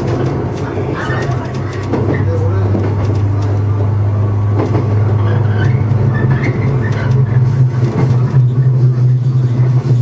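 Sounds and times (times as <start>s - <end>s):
electric train running hum: 0.0s - 10.0s.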